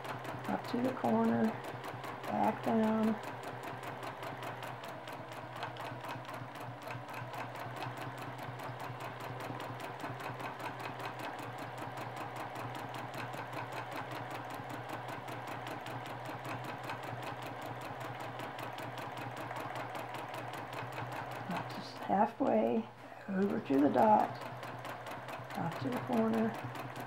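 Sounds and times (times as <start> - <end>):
sewing machine stitching: 0.0 - 22.3, 23.3 - 27.0.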